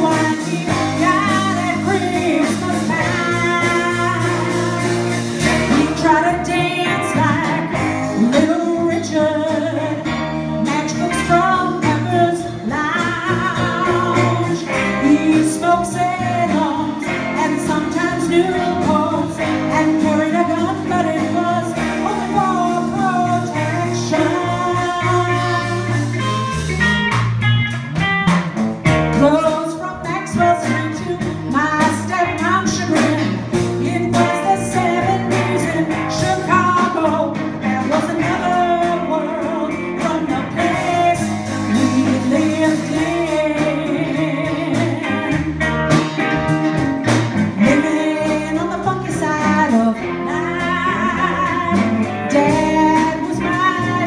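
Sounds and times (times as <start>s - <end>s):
woman singing into a microphone: 0.0s - 26.6s, 29.0s - 46.5s, 47.4s - 54.0s
bass guitar: 0.0s - 54.0s
electric guitar: 0.0s - 54.0s.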